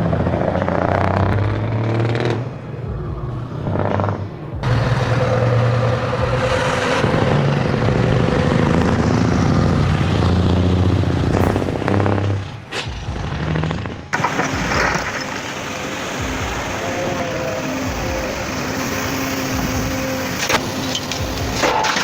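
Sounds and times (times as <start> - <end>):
heavy truck engines pulling away: 0.0 - 22.0.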